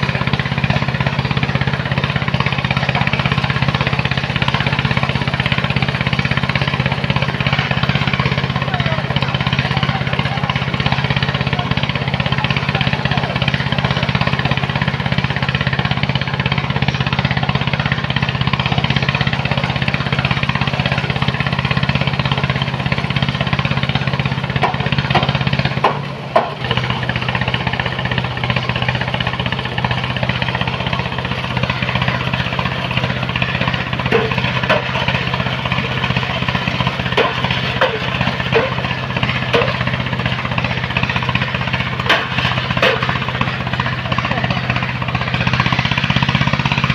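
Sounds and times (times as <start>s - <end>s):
machine engine humming: 0.0s - 46.9s.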